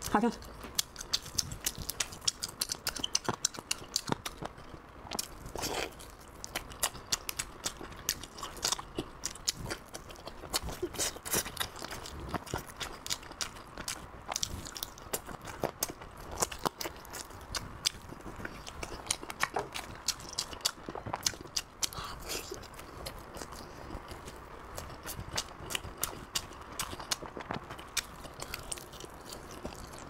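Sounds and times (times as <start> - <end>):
wet chewing and lip-smacking: 0.0 - 30.0.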